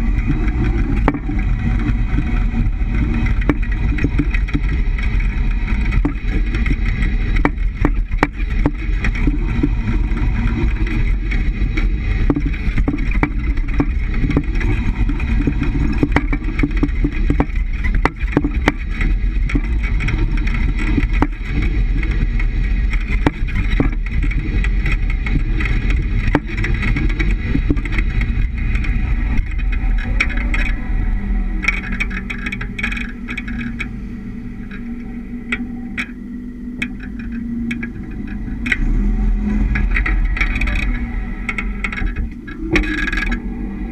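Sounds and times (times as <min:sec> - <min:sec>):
van road noise: 0:00.0 - 0:43.9.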